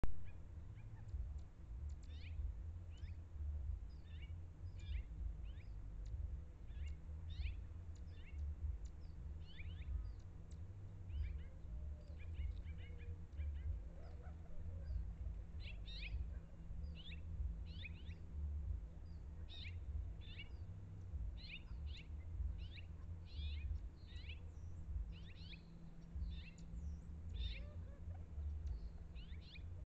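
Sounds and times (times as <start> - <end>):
steady low rumble: 0.0 - 29.8
small birds chirping: 0.1 - 29.8.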